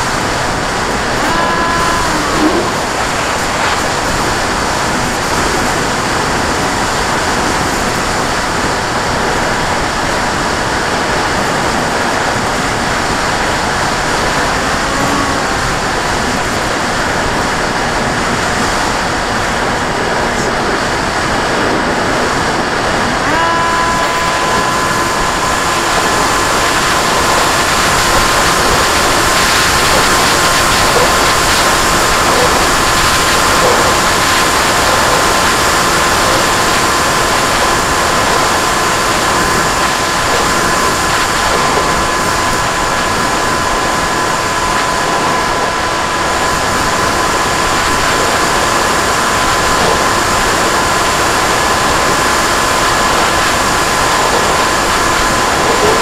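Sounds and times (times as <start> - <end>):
motor and propeller whine: 0.0 - 56.0.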